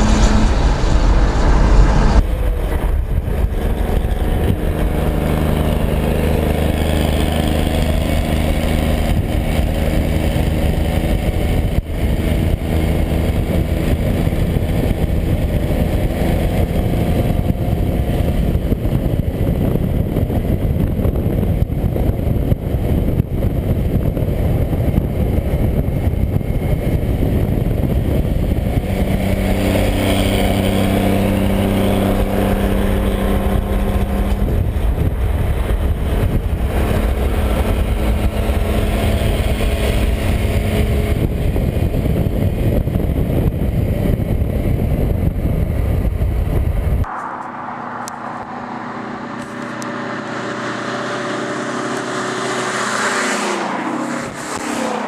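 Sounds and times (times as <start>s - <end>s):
tyre noise on road: 0.0s - 55.0s
vehicle engine droning: 0.0s - 55.0s
wind noise: 0.0s - 55.0s.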